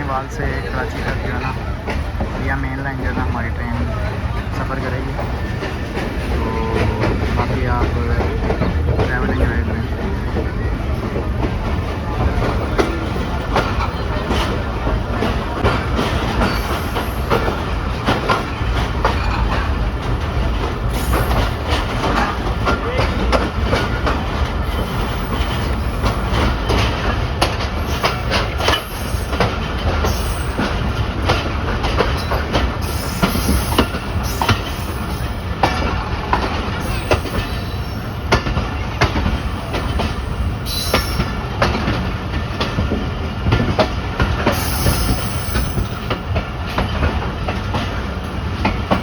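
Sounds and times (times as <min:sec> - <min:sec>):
train coaches rumbling: 0:00.0 - 0:49.0
wheels clacking over rail joints: 0:00.0 - 0:49.0.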